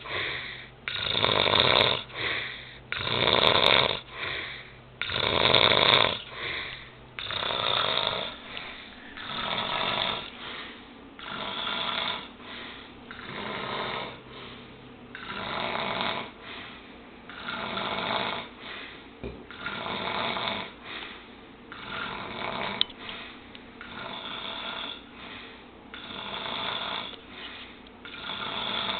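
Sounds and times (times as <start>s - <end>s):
person snoring: 0.0s - 14.5s, 15.1s - 16.7s, 17.3s - 18.8s, 19.5s - 20.8s, 21.7s - 22.8s, 23.8s - 25.1s, 25.9s - 27.2s, 28.0s - 28.9s.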